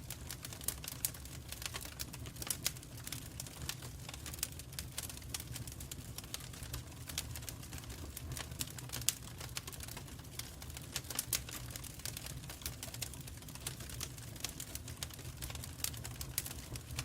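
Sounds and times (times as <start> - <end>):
low fire rumble: 0.0 - 17.0
wood fire popping and snapping: 0.0 - 17.0.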